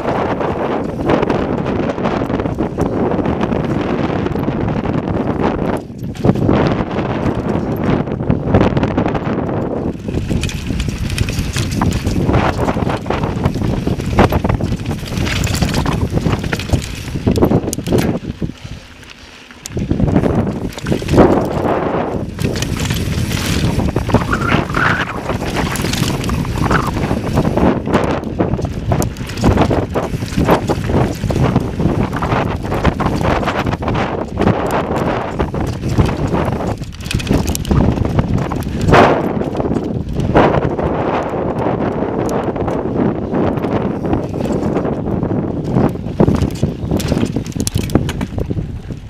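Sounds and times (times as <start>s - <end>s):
bike rattling over rocks: 0.0s - 49.0s
wind buffeting microphone: 0.0s - 49.0s.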